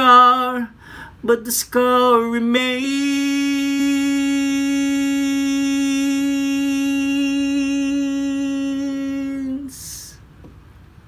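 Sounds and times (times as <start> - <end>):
man singing a long note: 0.0 - 10.2.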